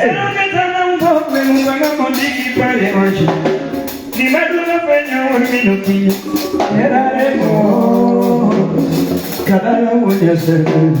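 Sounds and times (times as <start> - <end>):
live band playing: 0.0 - 11.0
man singing: 0.0 - 11.0.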